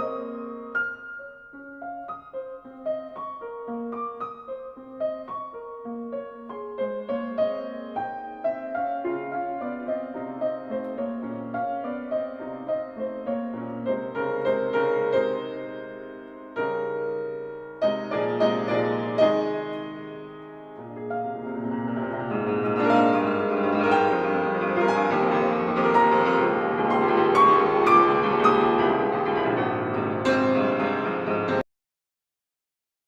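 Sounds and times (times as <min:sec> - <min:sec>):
piano music: 0:00.0 - 0:31.6.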